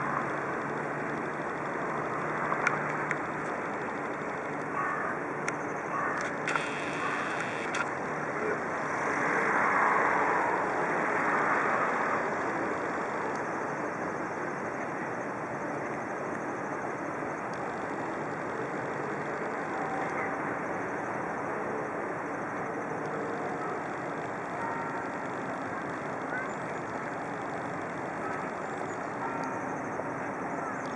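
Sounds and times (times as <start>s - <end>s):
traffic rumble: 0.0s - 30.9s.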